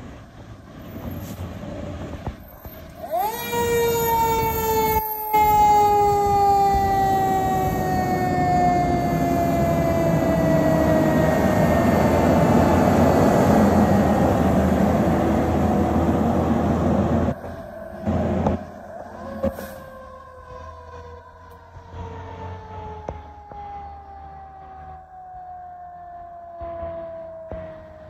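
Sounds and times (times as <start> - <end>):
fire engine siren wailing: 0.0 - 28.0.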